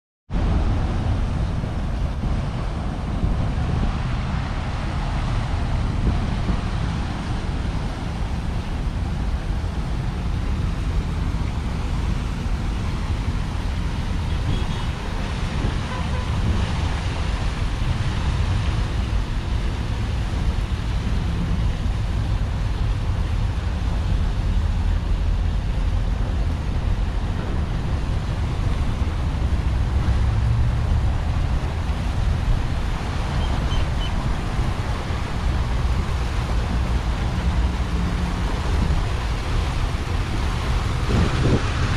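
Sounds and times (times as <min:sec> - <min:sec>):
road traffic rumble: 0:00.3 - 0:41.9.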